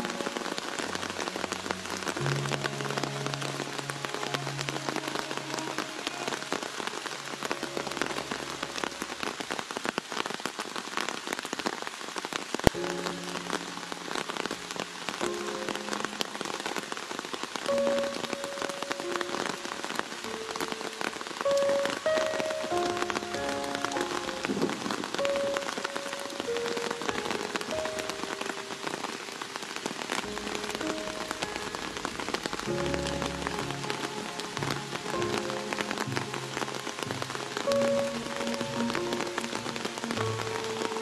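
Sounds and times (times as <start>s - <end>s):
soft background music: 0.0s - 9.2s, 12.7s - 41.0s
heavy rain on leaves: 0.0s - 41.0s.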